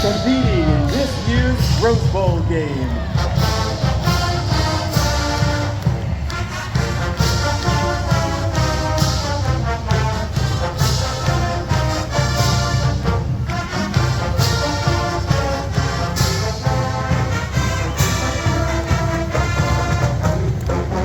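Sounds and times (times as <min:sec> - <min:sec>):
brass: 0:00.0 - 0:21.0
drums and cymbals: 0:00.0 - 0:21.0.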